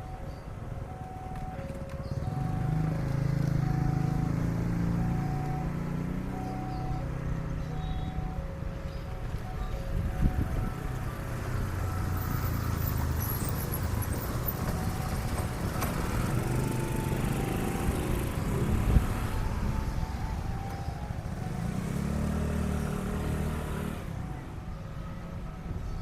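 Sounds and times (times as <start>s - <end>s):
engine low rumble: 0.0s - 26.0s.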